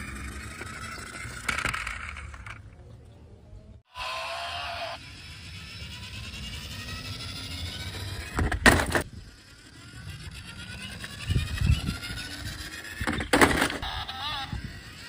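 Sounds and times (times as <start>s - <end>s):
vehicle whine over low rumble: 0.0s - 3.9s, 4.5s - 15.0s.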